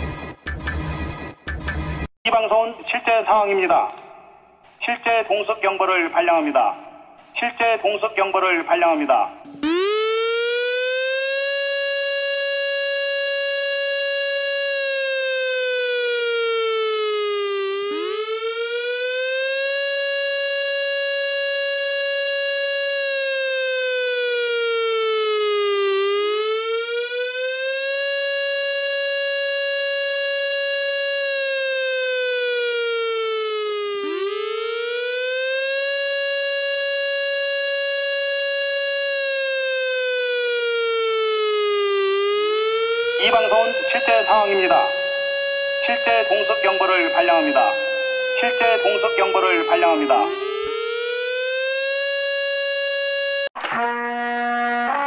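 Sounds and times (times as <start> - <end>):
air-raid siren wailing: 9.3 - 55.0.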